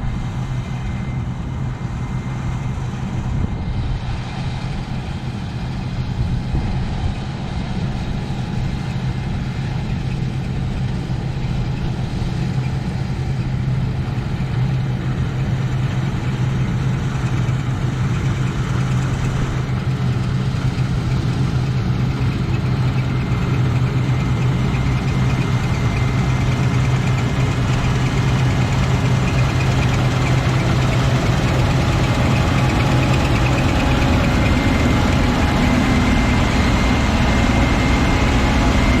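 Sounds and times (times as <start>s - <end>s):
combine harvester engine running: 0.0s - 39.0s.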